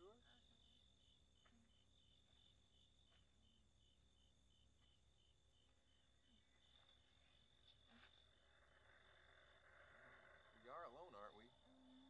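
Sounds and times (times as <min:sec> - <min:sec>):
crickets chirping: 0:00.0 - 0:12.0
steady high insect trill: 0:00.0 - 0:12.0.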